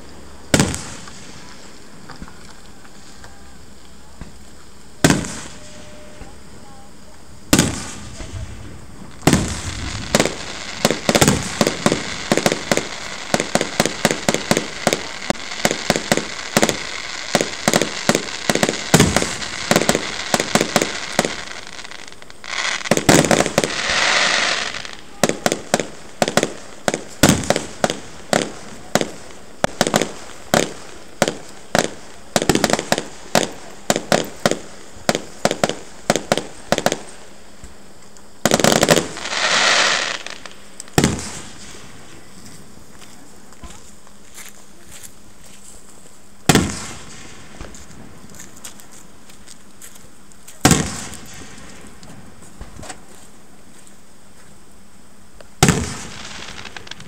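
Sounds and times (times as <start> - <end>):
fireworks bursting: 0.0 - 42.7, 46.4 - 48.9, 50.5 - 53.1, 55.5 - 57.0
fireworks hissing crackle: 0.0 - 57.0.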